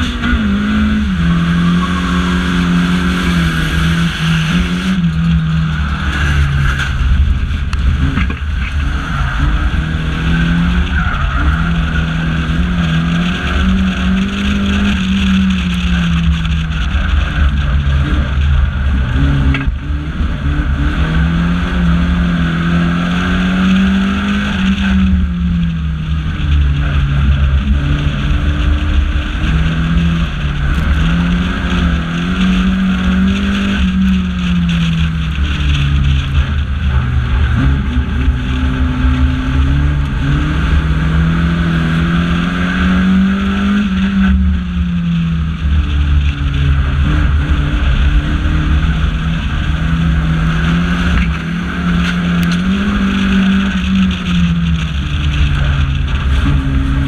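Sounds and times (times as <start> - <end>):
car engine revving: 0.0 - 57.0
deep road and drivetrain rumble: 0.0 - 57.0.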